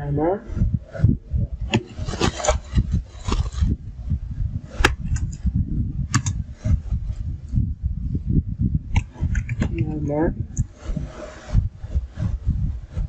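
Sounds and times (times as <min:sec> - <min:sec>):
low thumping and rubbing: 0:00.4 - 0:13.0.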